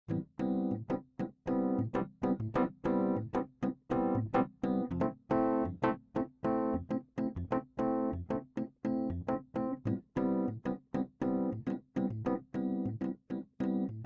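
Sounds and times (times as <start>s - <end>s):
electric piano chords: 0.1s - 14.0s.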